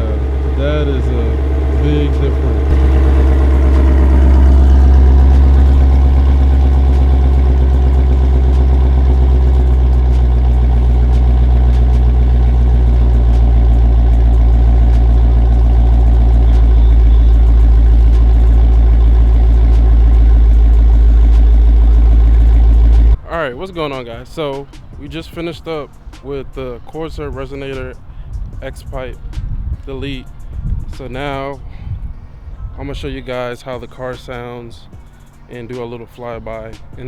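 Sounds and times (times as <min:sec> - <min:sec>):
car engine idling loudly: 0:00.0 - 0:37.0.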